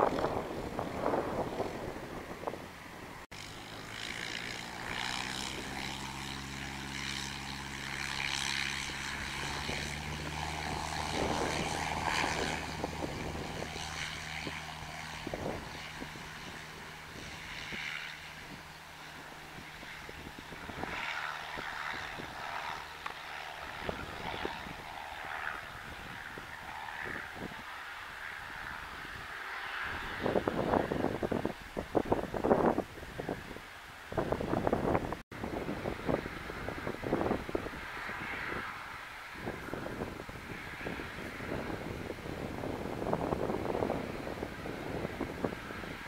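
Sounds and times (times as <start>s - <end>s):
propeller plane engine: 0.0s - 46.0s.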